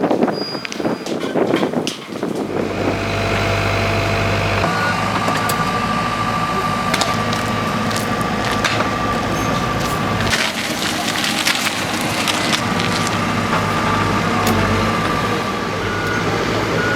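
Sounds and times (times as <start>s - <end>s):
engine running: 2.4s - 16.9s.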